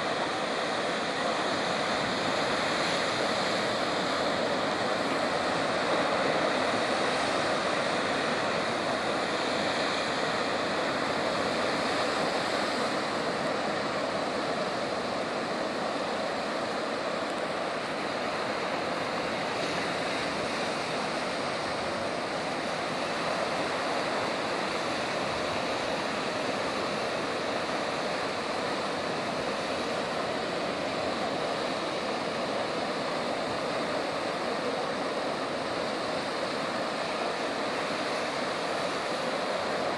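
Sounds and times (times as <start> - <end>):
sea surf breaking on rocks: 0.0 - 39.9.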